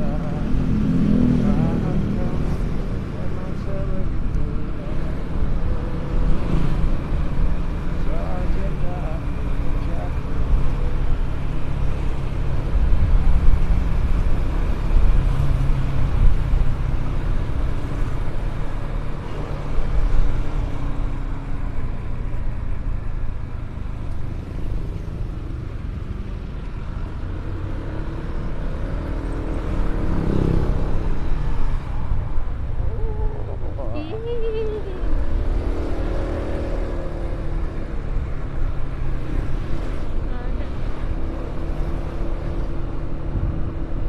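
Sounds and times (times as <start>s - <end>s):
road and wind noise: 0.0s - 44.0s
vehicle engine rumble: 0.0s - 44.0s.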